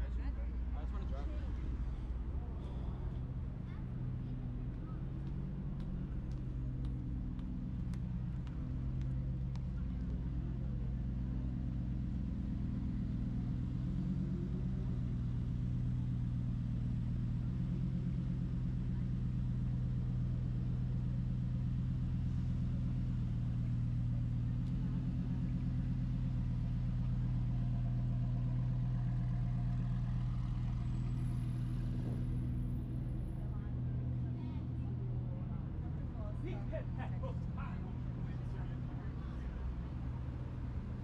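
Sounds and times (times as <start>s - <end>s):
low engine hum of vehicles: 0.0s - 41.0s.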